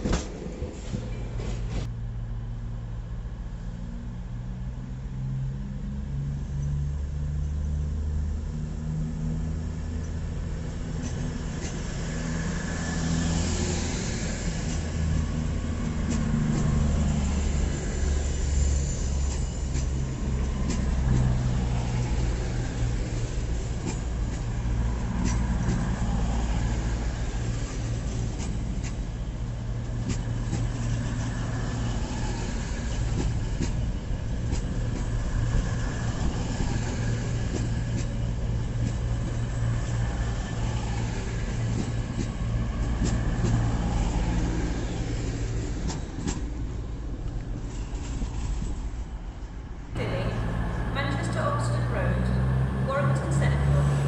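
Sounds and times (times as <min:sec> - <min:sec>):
diesel train engines running: 0:05.6 - 0:54.0.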